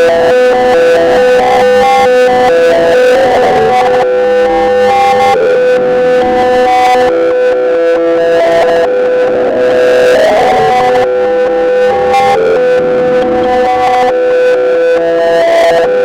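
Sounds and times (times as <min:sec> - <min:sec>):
distorted electronic alarm tones: 0:00.0 - 0:16.0.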